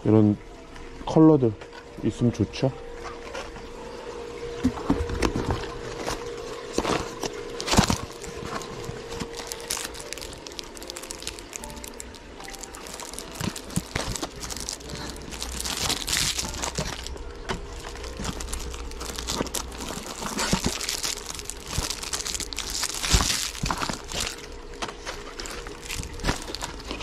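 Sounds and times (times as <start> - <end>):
plastic packaging crinkling: 5.2 - 27.0.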